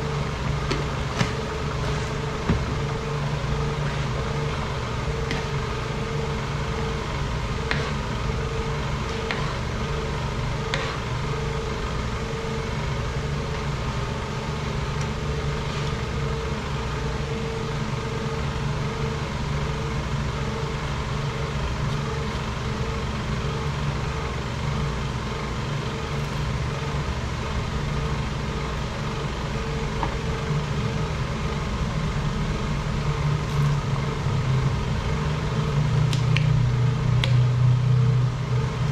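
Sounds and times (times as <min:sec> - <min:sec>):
machine hum: 0:00.0 - 0:38.9.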